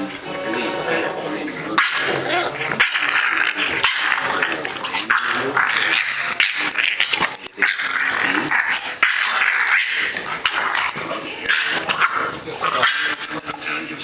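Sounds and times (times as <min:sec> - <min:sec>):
dogs growling in play: 0:00.8 - 0:14.0.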